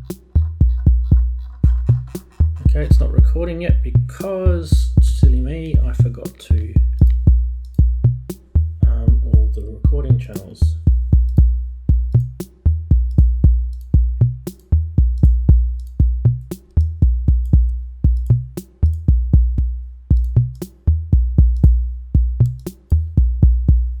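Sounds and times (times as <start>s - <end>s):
drum machine beat: 0.0s - 24.0s.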